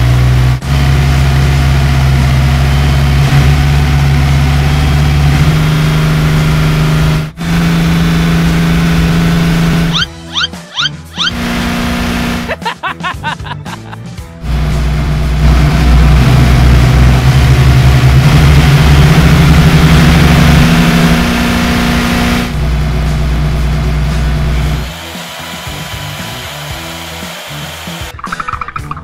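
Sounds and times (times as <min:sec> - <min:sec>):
buzzing toy car engine: 0:00.0 - 0:12.6, 0:14.4 - 0:28.2.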